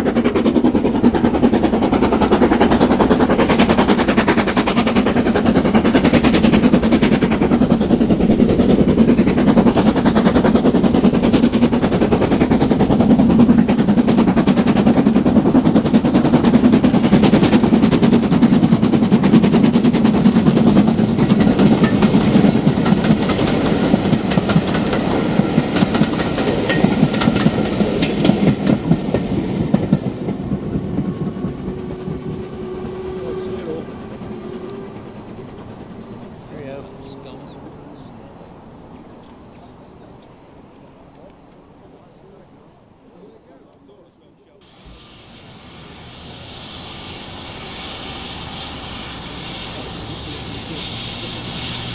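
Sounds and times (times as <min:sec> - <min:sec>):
wheels clicking over rail joints: 0:00.0 - 0:41.6, 0:44.6 - 0:51.9
train rumbling past: 0:00.0 - 0:42.9, 0:44.6 - 0:51.9.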